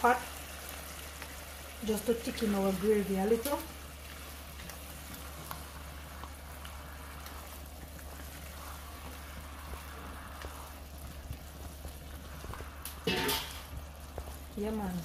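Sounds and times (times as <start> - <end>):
curry simmering and bubbling: 0.0 - 15.0
steady low hum: 0.0 - 15.0.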